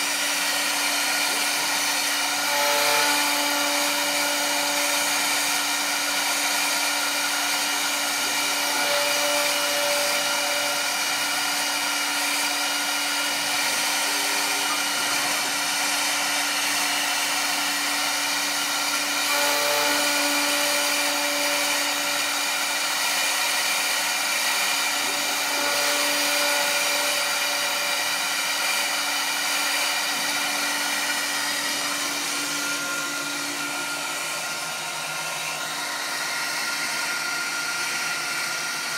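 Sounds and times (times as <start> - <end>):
milling machine humming and whining: 0.0 - 38.9.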